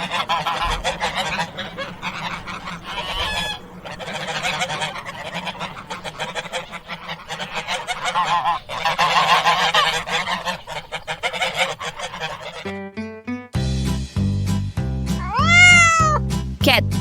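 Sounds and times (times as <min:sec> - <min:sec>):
geese honking: 0:00.0 - 0:12.8, 0:15.2 - 0:16.1.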